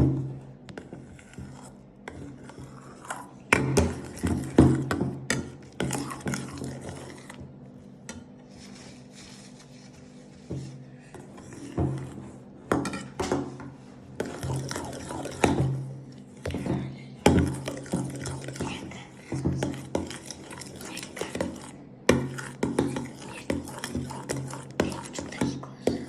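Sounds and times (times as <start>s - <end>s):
spoon scraping a bowl: 0.7s - 13.2s, 14.1s - 26.0s.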